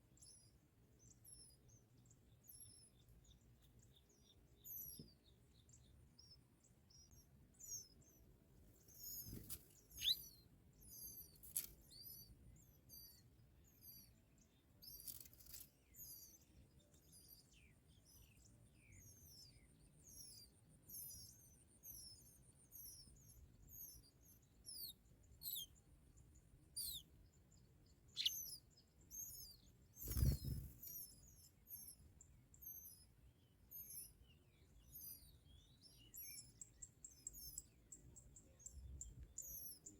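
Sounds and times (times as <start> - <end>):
birds chirping: 0.2 - 39.9.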